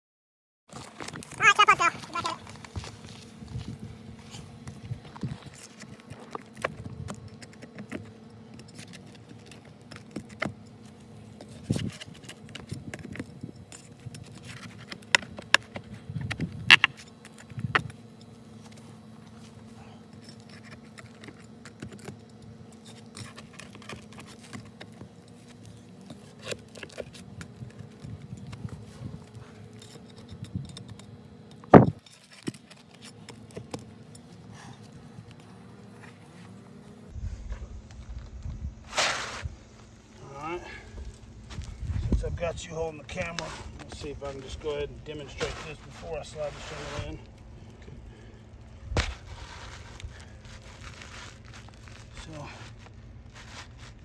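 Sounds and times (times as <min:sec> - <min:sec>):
steady low hum: 0:01.1 - 0:54.0.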